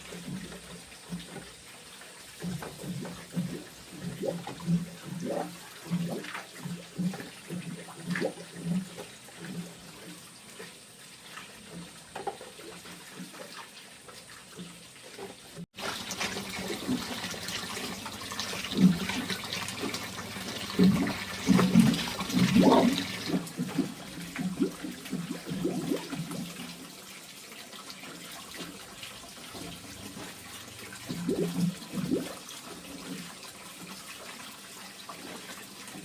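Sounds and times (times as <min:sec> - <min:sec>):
rushing water: 0:00.0 - 0:36.0
water splashing: 0:00.0 - 0:36.0.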